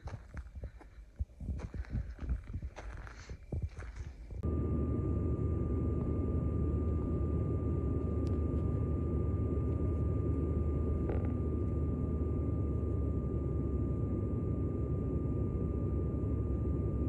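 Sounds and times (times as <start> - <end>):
high whine: 0.0 - 17.0
plane cabin roar: 0.0 - 17.0.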